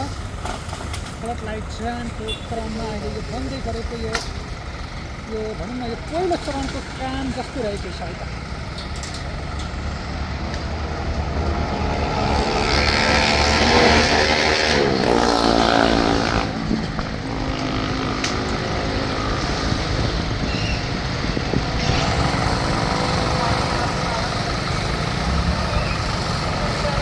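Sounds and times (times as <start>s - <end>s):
crane engine revving: 0.0s - 27.0s.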